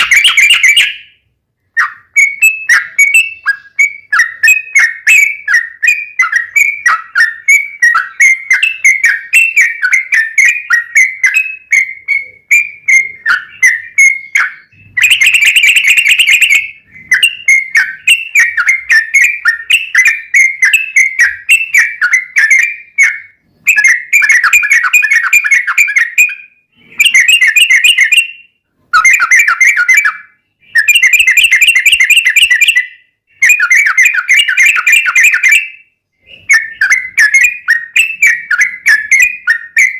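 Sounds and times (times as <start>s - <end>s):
bird singing chattering notes: 0.0s - 28.4s, 29.0s - 39.9s.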